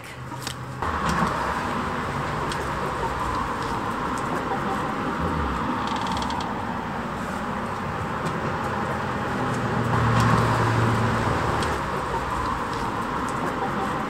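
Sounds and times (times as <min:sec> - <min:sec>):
vehicle engine passing: 0:00.2 - 0:14.0.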